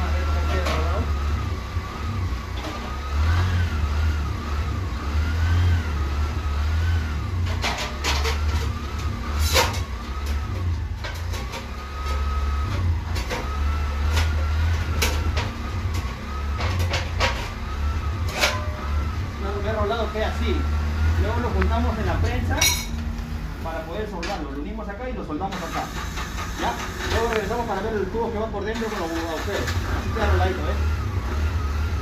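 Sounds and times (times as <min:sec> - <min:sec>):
low engine rumble: 0:00.0 - 0:32.0.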